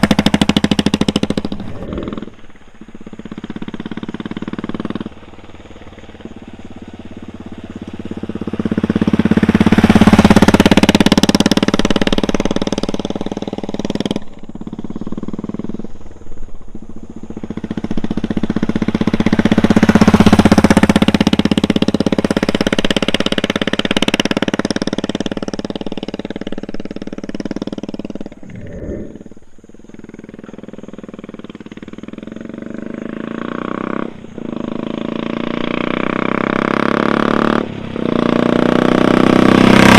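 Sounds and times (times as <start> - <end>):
motorcycle riding past: 0.0 - 39.9.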